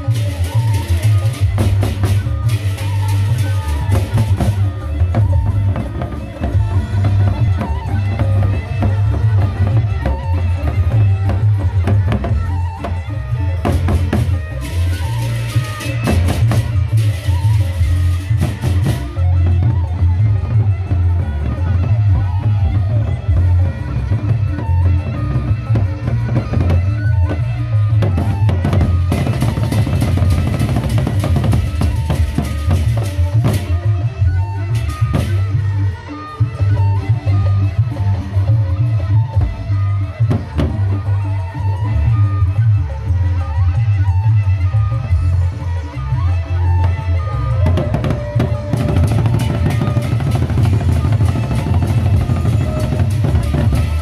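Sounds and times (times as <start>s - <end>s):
drum ensemble playing: 0.0s - 19.9s, 23.4s - 41.2s, 46.8s - 54.0s.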